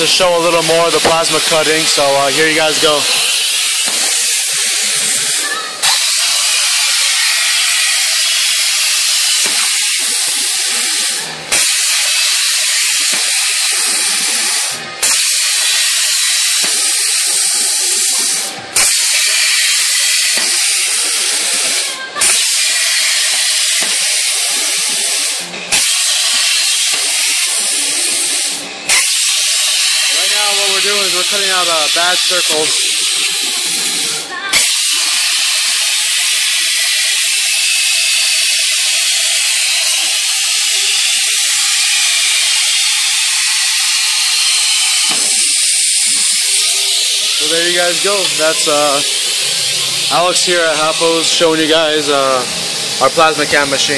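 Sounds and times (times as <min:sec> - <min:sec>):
plasma torch cutting metal: 0:00.0 - 0:53.9.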